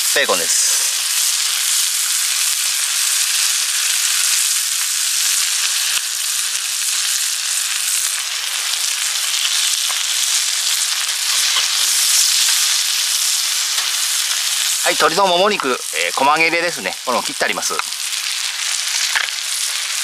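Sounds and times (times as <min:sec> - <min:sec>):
bacon sizzling in a skillet: 0:00.0 - 0:20.0.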